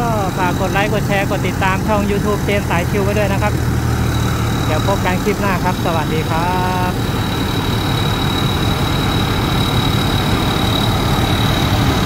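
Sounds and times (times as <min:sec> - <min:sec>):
diesel engine idling: 0:00.0 - 0:12.0
high-pitched whine: 0:00.0 - 0:12.0.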